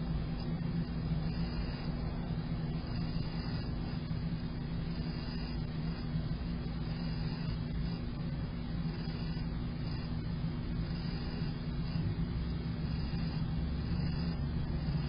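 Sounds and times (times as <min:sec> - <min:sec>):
constant low hum: 0:00.0 - 0:15.0
low rumbling noise: 0:00.0 - 0:15.0.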